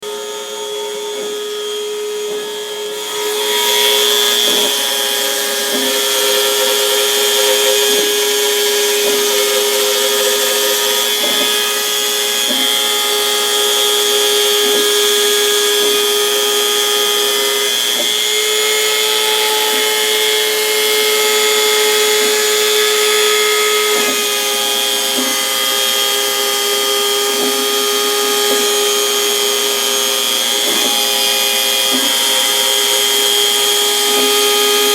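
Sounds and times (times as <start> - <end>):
router spindle whining: 0.0 - 34.9.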